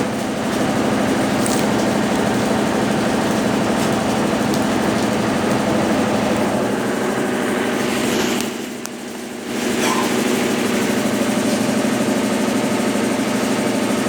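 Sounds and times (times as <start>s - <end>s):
washing machine churning: 0.0s - 14.0s.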